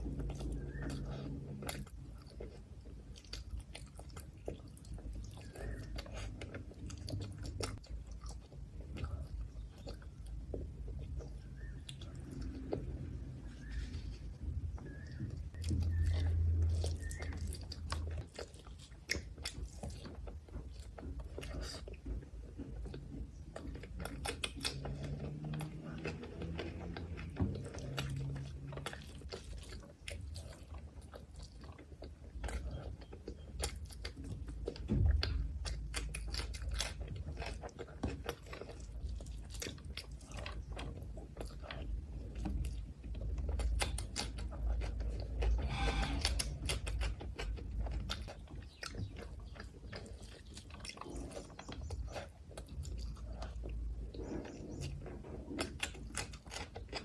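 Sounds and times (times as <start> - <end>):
chewing and wet mouth sounds: 0.0 - 57.0.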